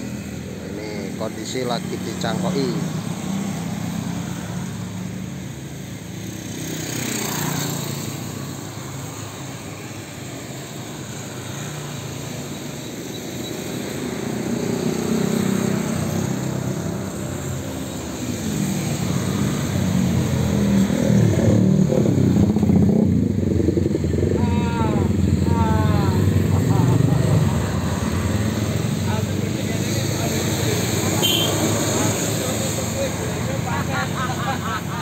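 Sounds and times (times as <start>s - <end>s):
cars passing: 0.0s - 35.0s
motorbikes passing: 0.0s - 35.0s.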